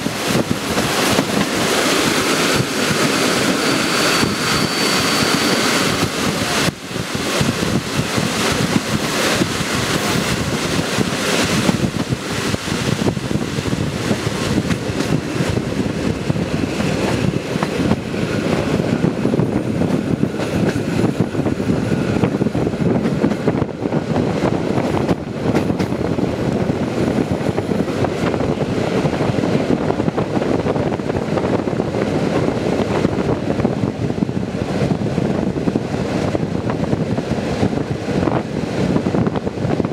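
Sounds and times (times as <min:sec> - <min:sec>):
train wheels rumbling on rails: 0:00.0 - 0:39.9
wind buffeting microphone: 0:00.0 - 0:39.9.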